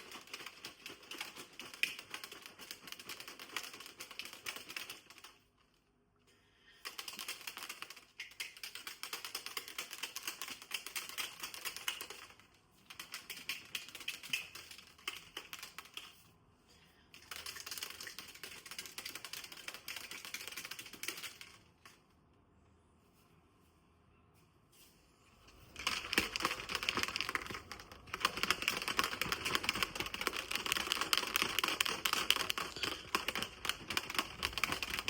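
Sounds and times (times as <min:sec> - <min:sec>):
fast keyboard typing: 0:00.0 - 0:05.4, 0:06.8 - 0:16.1, 0:17.2 - 0:21.6, 0:25.7 - 0:35.0.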